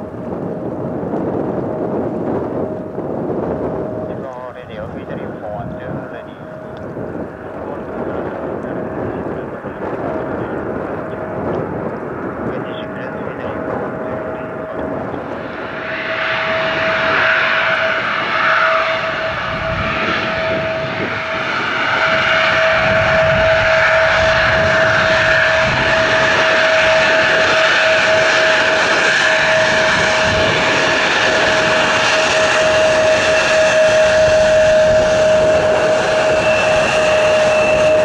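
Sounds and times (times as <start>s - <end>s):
jet engines whining: 0.0s - 38.0s
wind on microphone: 0.0s - 38.0s.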